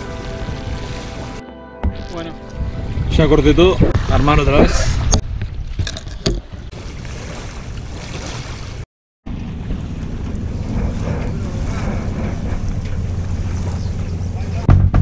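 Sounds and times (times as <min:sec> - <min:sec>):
water lapping: 0:00.0 - 0:01.4, 0:02.1 - 0:14.7
wind buffeting microphone: 0:00.0 - 0:08.2, 0:09.3 - 0:14.7.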